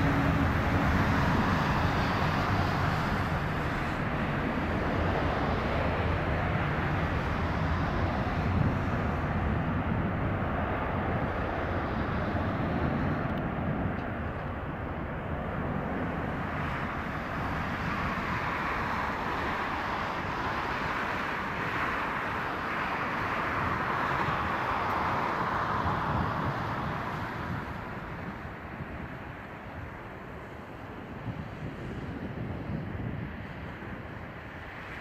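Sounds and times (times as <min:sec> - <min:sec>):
jet engines at takeoff: 0:00.0 - 0:35.0.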